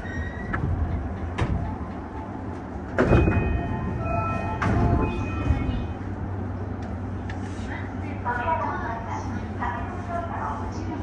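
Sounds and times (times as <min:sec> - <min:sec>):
train standing rumble: 0:00.0 - 0:11.0.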